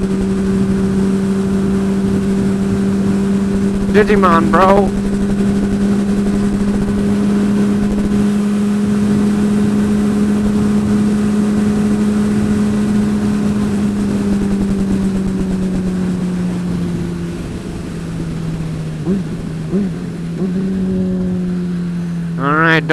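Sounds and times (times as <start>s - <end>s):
motorcycle engine riding: 0.0s - 22.9s.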